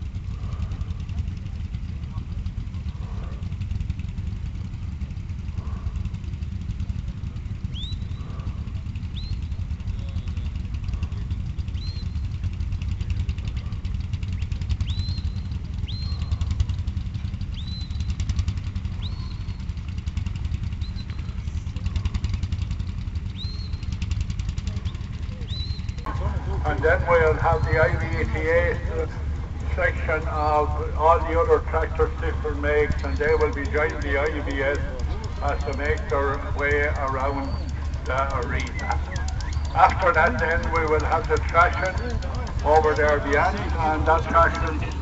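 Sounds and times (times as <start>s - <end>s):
low rumble: 0.0s - 45.0s.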